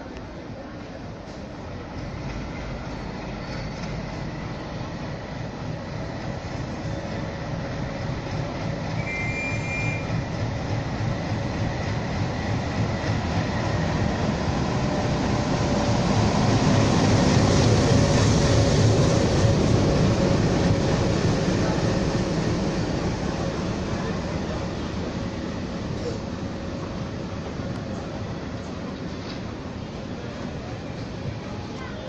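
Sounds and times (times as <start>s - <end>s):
diesel locomotive engine rumble: 0.0s - 32.0s
train coaches rolling past: 0.0s - 32.0s.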